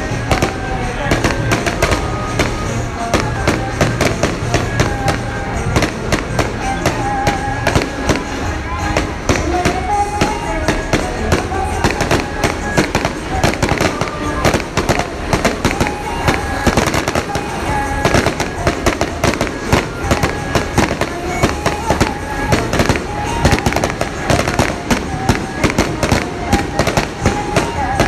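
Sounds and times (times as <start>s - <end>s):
firecrackers crackling: 0.0s - 28.0s
music: 0.0s - 28.0s.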